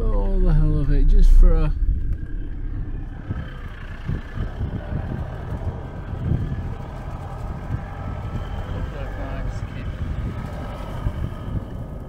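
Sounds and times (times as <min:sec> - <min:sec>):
vehicle engine running low: 0:00.0 - 0:12.0.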